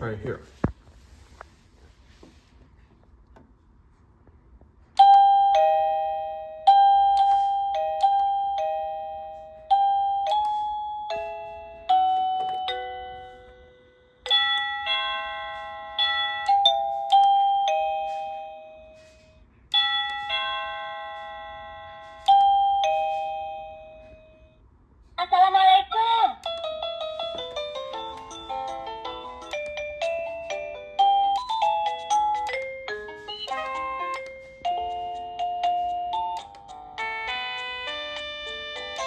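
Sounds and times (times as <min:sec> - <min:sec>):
doorbell chime tunes: 0:05.0 - 0:24.6, 0:26.5 - 0:39.0.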